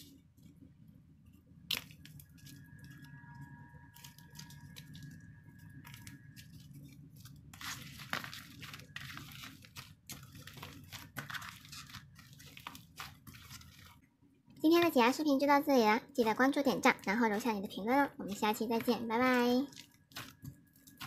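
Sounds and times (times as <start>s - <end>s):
clay balls cracking and crunching: 1.4s - 15.2s, 17.0s - 21.0s.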